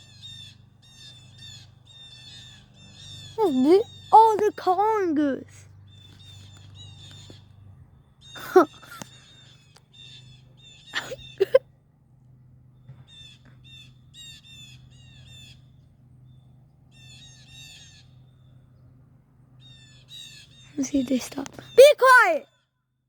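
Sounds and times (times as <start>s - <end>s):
harsh blue jay calls: 0.0s - 11.6s, 12.9s - 18.8s, 19.6s - 22.4s.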